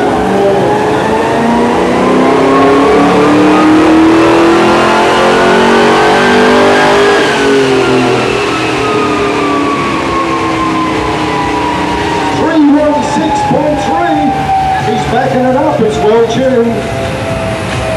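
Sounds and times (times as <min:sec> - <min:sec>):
engine revving on dyno: 0:00.0 - 0:17.9.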